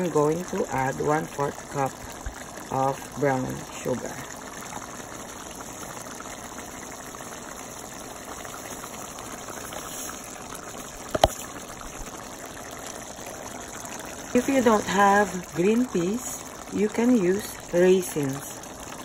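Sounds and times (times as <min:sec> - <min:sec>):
stew simmering and bubbling: 0:00.0 - 0:19.0.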